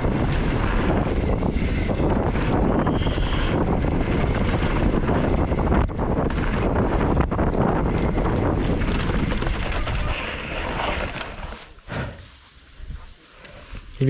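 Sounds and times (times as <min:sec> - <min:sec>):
tyres rolling over dirt trail: 0:00.0 - 0:12.5
wind on microphone: 0:00.0 - 0:14.0.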